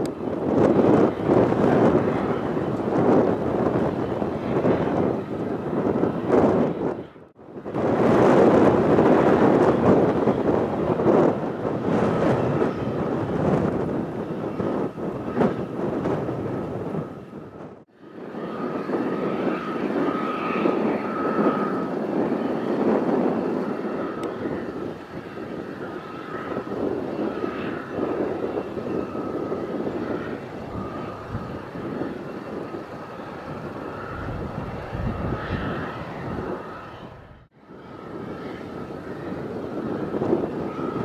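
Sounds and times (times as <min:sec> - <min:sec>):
jet engines rumbling and whining: 0:00.0 - 0:41.0.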